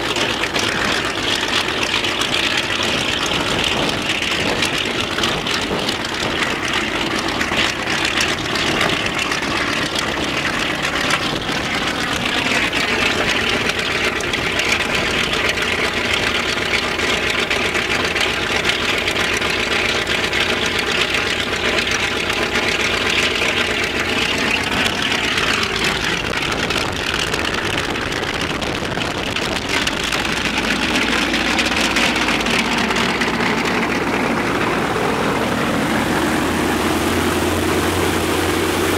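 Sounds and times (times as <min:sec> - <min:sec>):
radial aircraft engine running: 0:00.0 - 0:38.9.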